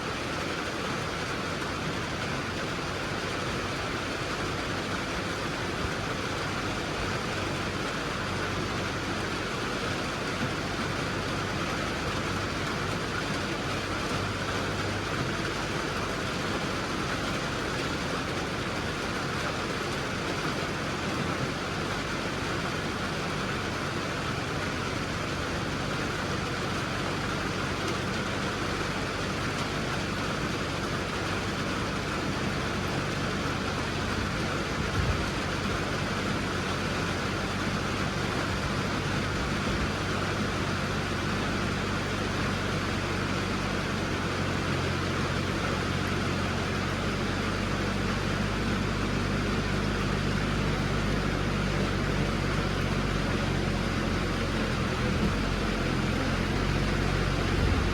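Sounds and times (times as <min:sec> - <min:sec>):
rain hissing: 0:00.0 - 0:57.9
vehicle engine running: 0:00.0 - 0:57.9.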